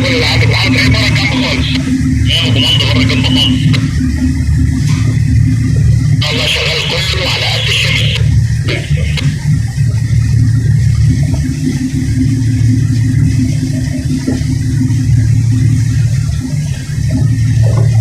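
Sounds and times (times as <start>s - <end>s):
diesel engines droning: 0.0s - 18.0s
steady hum: 0.0s - 18.0s.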